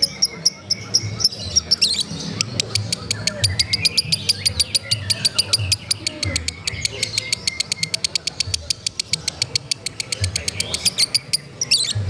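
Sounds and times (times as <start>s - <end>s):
lovebird chirping rapidly: 0.0s - 12.0s.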